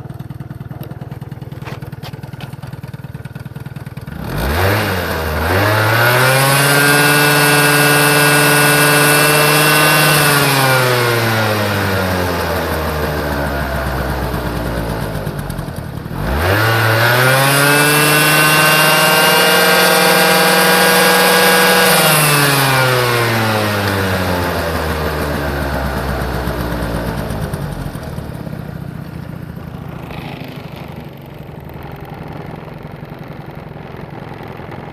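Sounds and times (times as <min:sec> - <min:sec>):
scooter engine revving and idling: 0:00.0 - 0:34.9.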